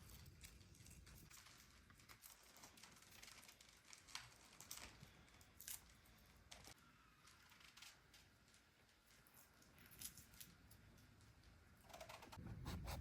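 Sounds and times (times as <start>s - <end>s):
faint crinkles and clicks: 0.0s - 12.4s.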